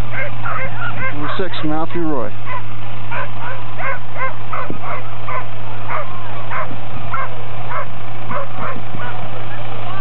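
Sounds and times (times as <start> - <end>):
sled dogs yipping and barking: 0.0 - 1.7, 2.4 - 10.0
steady low hum: 0.0 - 10.0.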